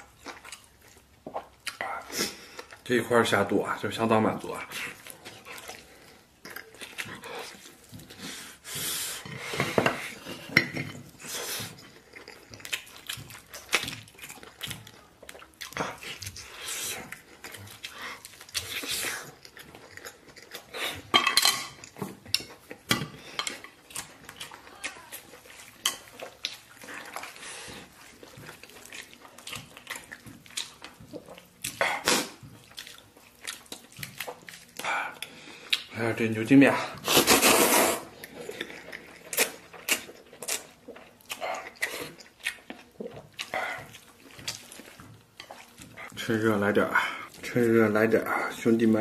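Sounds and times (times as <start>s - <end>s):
chewing and mouth noises: 0.0s - 49.0s.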